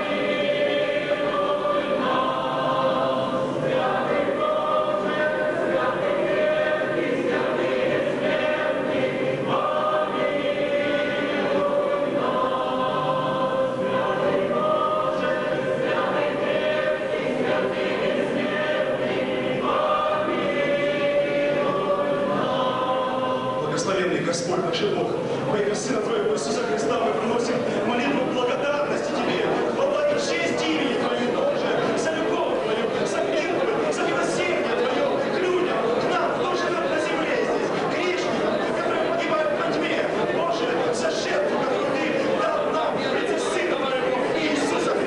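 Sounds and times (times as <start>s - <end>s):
choir singing a hymn: 0.0s - 45.0s.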